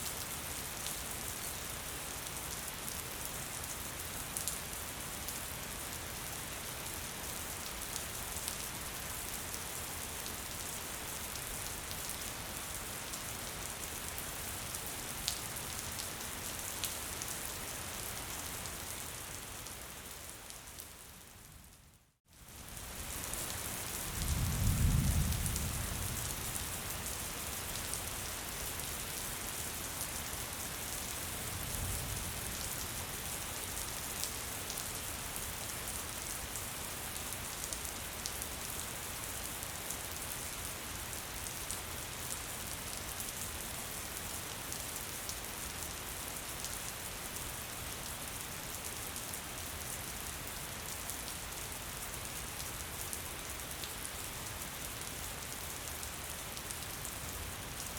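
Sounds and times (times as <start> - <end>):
gentle rain falling: 0.0 - 57.9.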